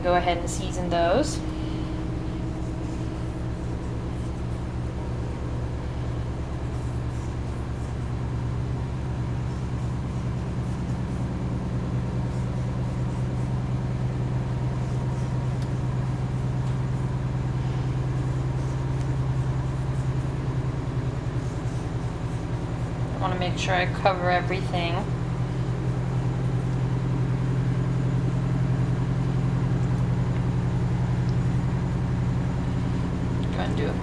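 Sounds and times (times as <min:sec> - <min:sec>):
motor humming: 0:00.0 - 0:34.0.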